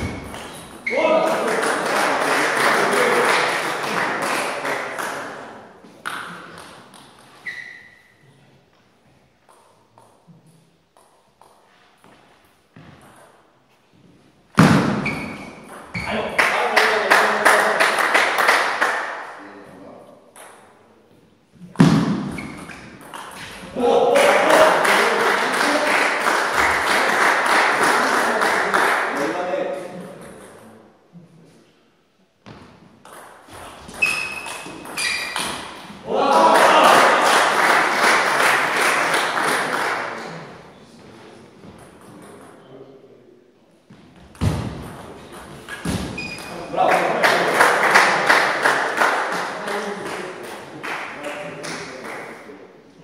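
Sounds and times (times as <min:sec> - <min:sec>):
voices and hall noise: 0:00.0 - 0:08.8, 0:13.2 - 0:32.5, 0:33.2 - 0:53.0.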